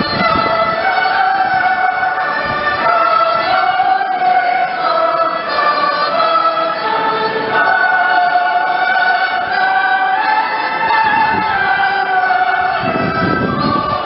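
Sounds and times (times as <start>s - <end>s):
choir singing slow melody: 0.0s - 14.0s.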